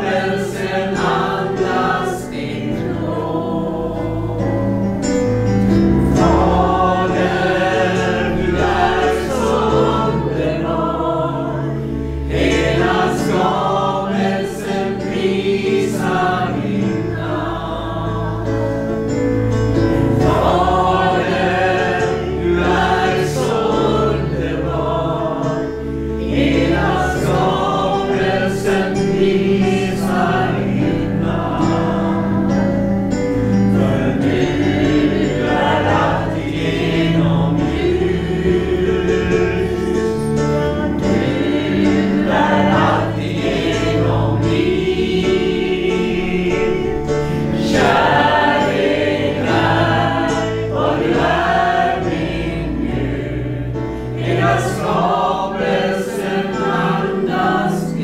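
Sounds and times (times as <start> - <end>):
sustained instrumental backing: 0.0 - 58.0
voices singing worship song: 0.0 - 58.0.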